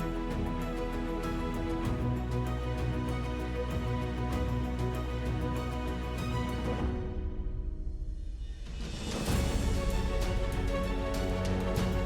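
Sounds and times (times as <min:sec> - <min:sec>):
low background music: 0:00.0 - 0:12.0.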